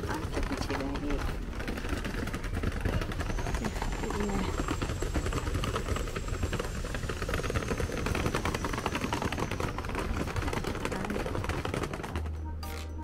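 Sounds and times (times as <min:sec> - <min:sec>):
suitcase wheels rolling over tiles: 0:00.0 - 0:13.0.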